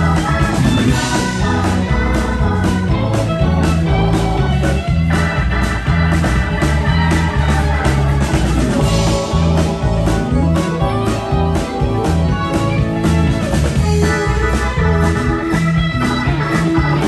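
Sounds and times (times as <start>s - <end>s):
drum kit: 0.0s - 17.0s
guitar: 0.0s - 17.0s
organ: 0.0s - 17.0s
repeating bass line: 0.0s - 17.0s.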